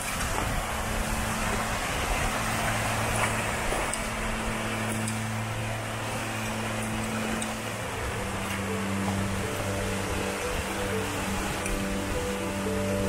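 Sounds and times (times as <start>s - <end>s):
low steady hum: 0.0s - 13.0s
waterfall and stream rushing: 0.0s - 13.0s.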